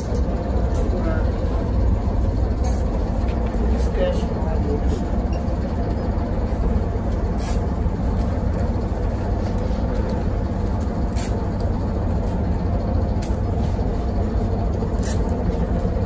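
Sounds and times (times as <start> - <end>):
trolleybus cabin rumble: 0.0 - 16.0.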